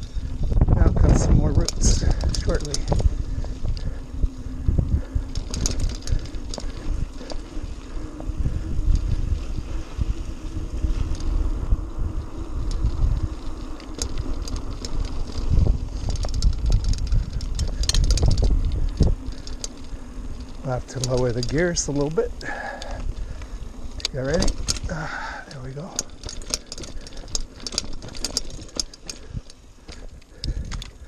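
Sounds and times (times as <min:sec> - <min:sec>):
bike rattles and clicks: 0:00.0 - 0:31.0
tyres rolling on dirt: 0:00.0 - 0:31.0
wind rumble on microphone: 0:00.0 - 0:31.0.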